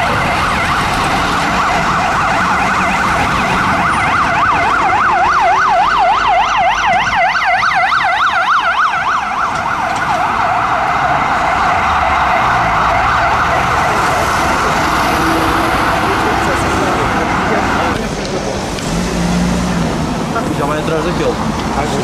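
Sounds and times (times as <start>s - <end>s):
ambulance siren yelping: 0.0s - 18.0s
traffic rumble: 0.0s - 22.0s.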